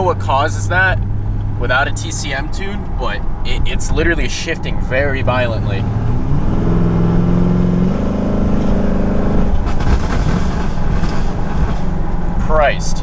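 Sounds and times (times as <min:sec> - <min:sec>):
car engine accelerating: 0:00.0 - 0:13.0
exhaust crackles: 0:00.0 - 0:13.0.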